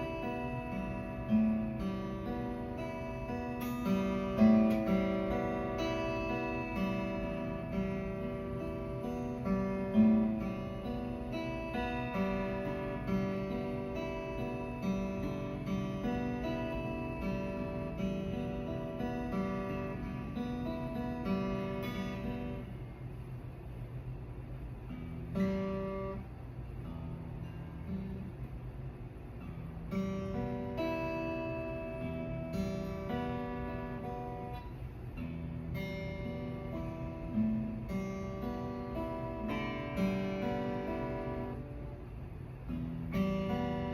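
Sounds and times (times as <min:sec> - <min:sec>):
acoustic guitar picking: 0:00.0 - 0:43.9.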